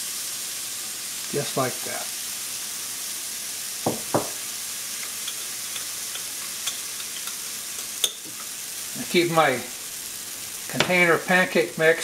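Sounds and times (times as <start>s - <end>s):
pancake batter sizzling: 0.0s - 12.0s.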